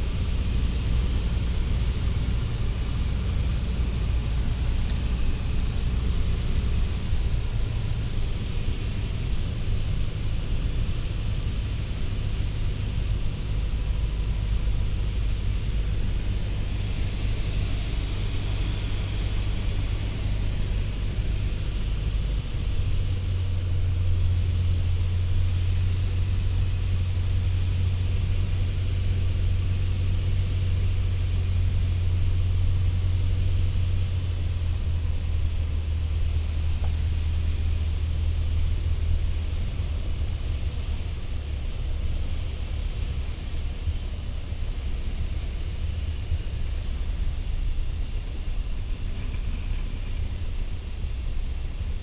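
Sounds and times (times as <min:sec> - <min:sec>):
air rushing past cabin: 0:00.0 - 0:52.0
aircraft engine and propeller: 0:00.0 - 0:52.0.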